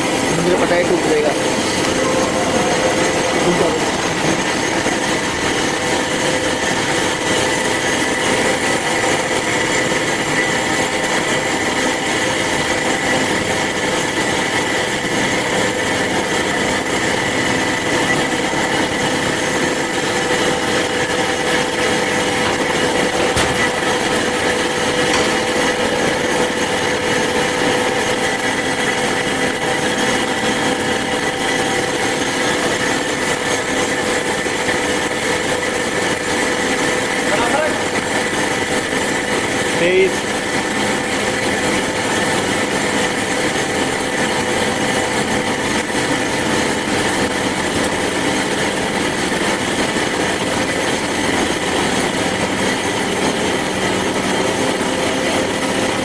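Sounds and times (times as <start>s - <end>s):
band saw cutting: 0.0s - 56.0s.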